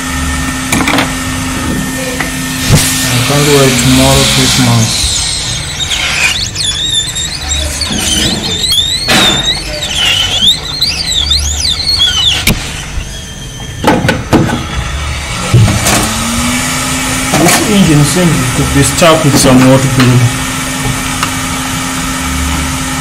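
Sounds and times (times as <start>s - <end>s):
high wavering squeal: 1.9s - 20.8s
hot air gun blowing: 2.1s - 21.6s.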